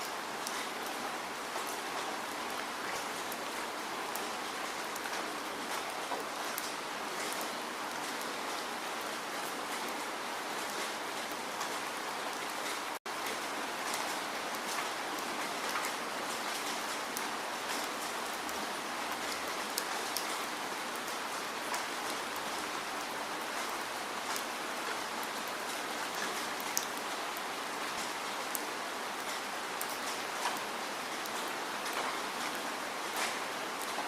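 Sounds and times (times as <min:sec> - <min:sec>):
raindrops ticking on a surface: 0:00.0 - 0:34.0
steady rain hiss: 0:00.0 - 0:34.0.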